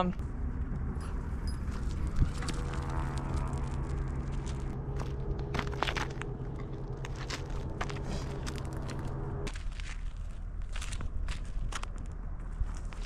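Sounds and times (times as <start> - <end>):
steady low hum: 0.0 - 13.0
footsteps crunching on gravel: 1.7 - 13.0.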